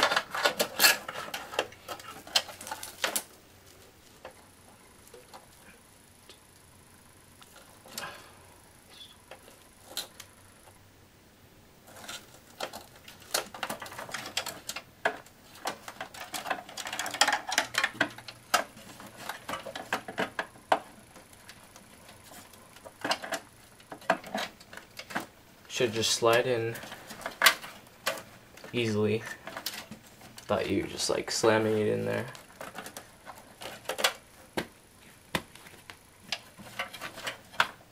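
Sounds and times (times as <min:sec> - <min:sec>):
cables rustling: 0:00.0 - 0:06.7, 0:11.8 - 0:37.9.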